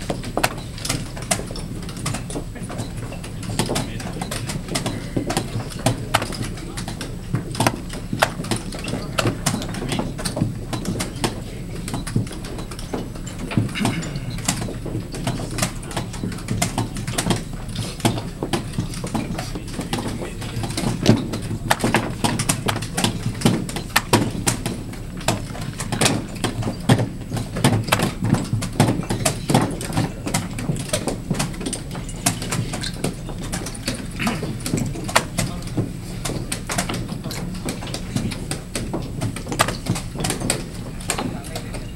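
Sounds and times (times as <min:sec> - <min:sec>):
room noise: 0:00.0 - 0:41.9.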